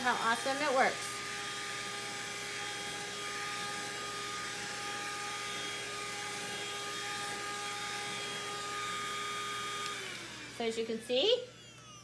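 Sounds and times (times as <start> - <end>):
handheld vacuum running: 0.0 - 12.0.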